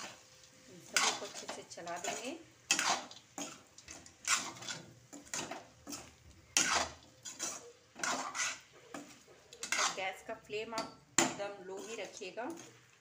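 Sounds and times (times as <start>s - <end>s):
metal spatula scraping a pan: 0.8s - 13.0s.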